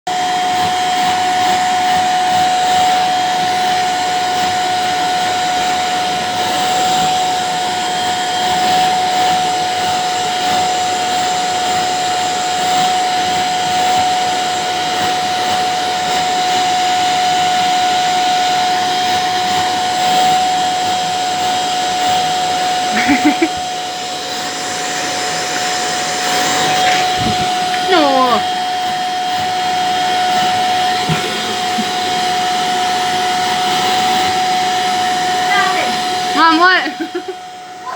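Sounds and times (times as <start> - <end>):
vacuum cleaner running: 0.1 - 37.9.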